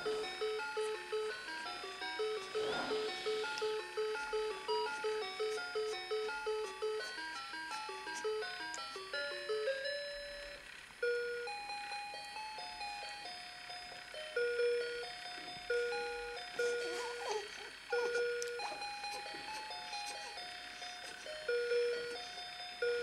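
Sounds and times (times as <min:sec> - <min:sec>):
electronic beeping lullaby tune: 0:00.0 - 0:23.0.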